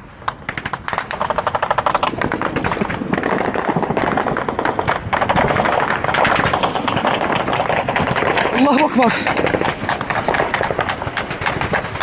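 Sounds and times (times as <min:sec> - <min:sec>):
automatic gunfire: 0:00.5 - 0:12.0.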